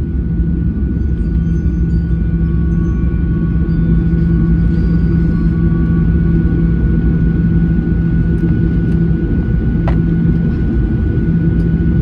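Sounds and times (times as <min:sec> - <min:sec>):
constant low hum: 0:00.0 - 0:12.0
jet engine and airflow noise: 0:00.0 - 0:12.0.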